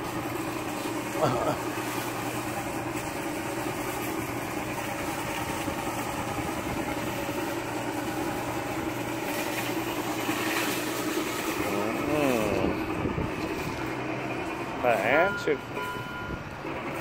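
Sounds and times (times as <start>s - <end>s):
electric motor humming: 0.0s - 17.0s.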